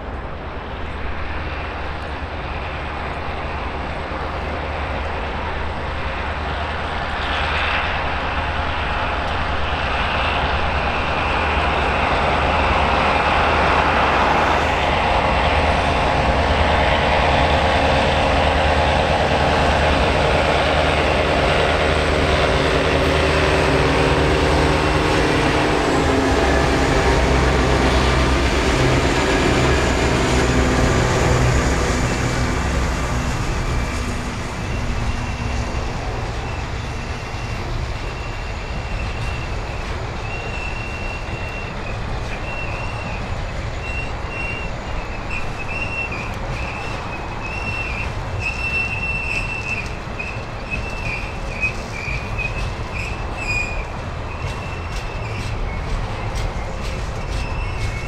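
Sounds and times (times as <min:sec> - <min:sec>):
diesel locomotive engines running: 0:00.0 - 0:58.0
wagons rumbling over rails: 0:00.0 - 0:58.0.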